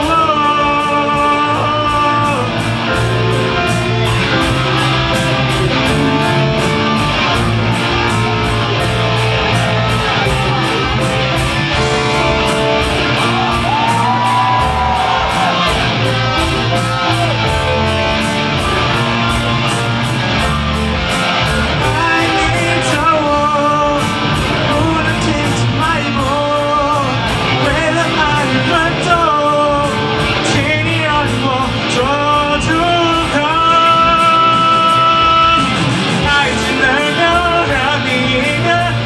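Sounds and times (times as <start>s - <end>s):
pop song with guitar and beat: 0.0s - 39.0s.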